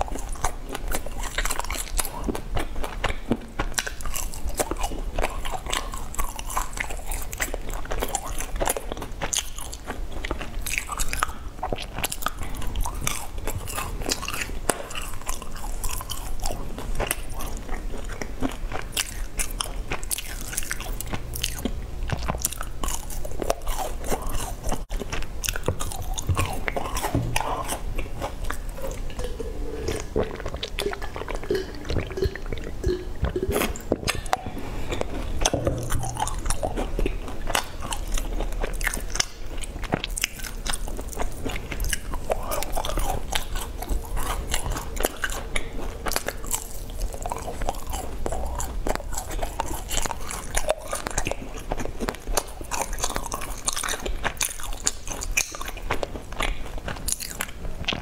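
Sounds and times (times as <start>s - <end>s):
crunching and chewing biscuits: 0.0s - 58.0s.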